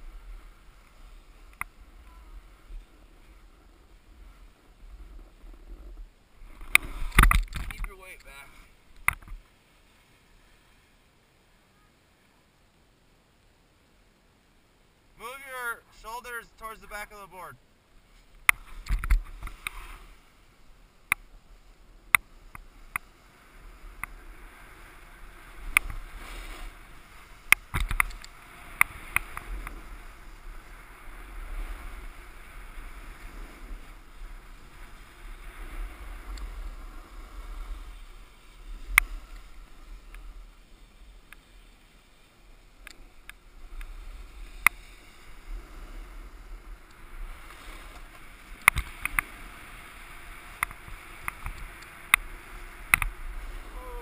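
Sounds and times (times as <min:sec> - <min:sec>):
wind rumbling on camera: 0:00.0 - 0:09.5, 0:18.0 - 0:54.0
snowboard carving over snow: 0:00.0 - 0:11.6, 0:15.2 - 0:54.0.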